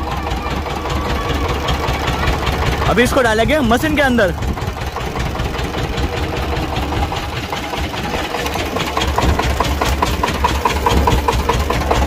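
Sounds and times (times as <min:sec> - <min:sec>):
sugarcane crusher engine rumbling: 0:00.0 - 0:12.0.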